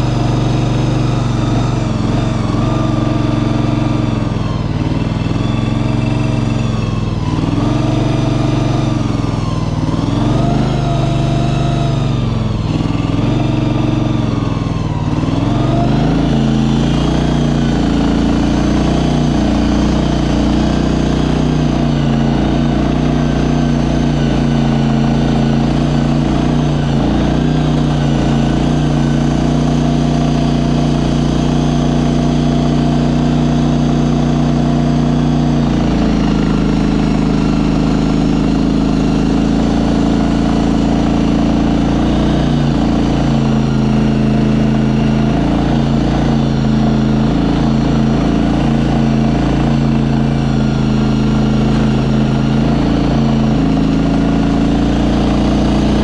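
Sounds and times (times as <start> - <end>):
engine running under load: 0.0 - 56.0.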